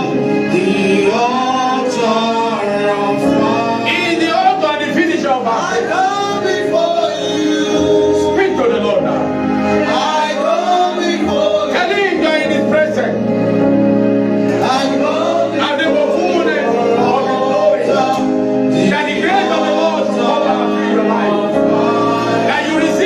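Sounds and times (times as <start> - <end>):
keyboard chords: 0.0 - 23.0
voices singing gospel: 0.0 - 23.0.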